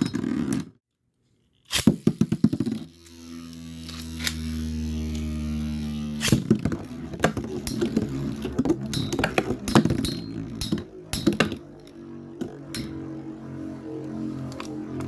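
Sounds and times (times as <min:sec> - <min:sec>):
whirring drone of spinning tops: 0:01.8 - 0:15.0.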